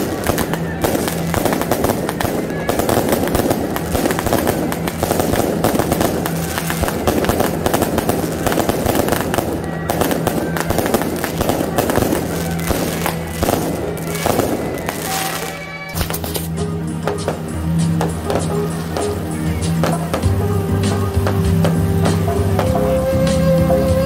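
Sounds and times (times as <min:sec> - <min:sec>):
fireworks crackling and popping: 0:00.0 - 0:24.0
music: 0:00.0 - 0:24.0.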